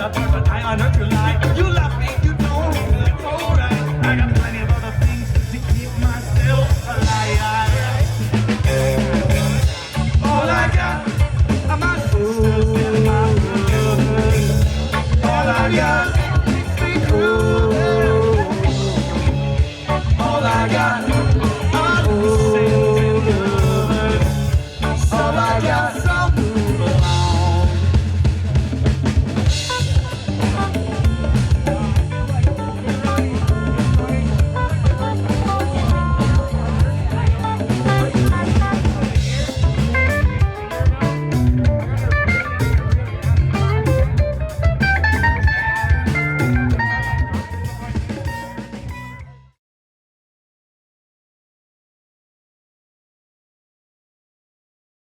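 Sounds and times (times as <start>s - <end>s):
drum kit beat: 0.0s - 49.3s
electric bass: 0.0s - 49.6s
electric guitar: 0.0s - 49.6s.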